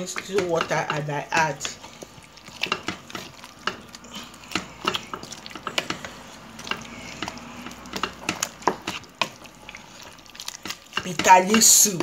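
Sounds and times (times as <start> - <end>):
spoon scraping a cooking pot: 0.0 - 12.0.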